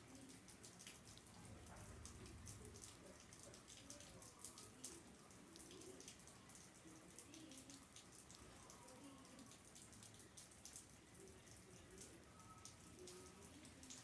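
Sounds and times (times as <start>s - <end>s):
light rain falling and dripping: 0.0s - 14.0s.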